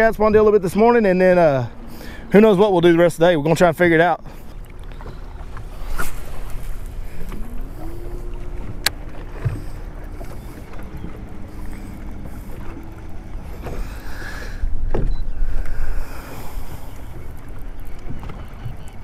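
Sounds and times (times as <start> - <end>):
waves slapping against boat hull: 0.0 - 19.0.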